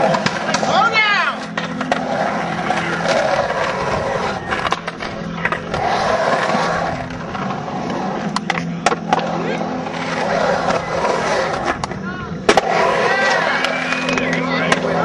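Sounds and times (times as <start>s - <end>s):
skateboard clacks: 0.0s - 9.4s, 10.0s - 15.0s
skateboard wheels rolling on concrete: 0.0s - 15.0s.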